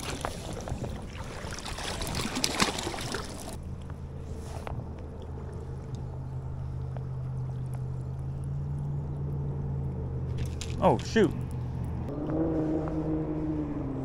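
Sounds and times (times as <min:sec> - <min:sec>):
water sloshing from wading: 0:00.0 - 0:13.1
low motor hum: 0:00.0 - 0:14.0.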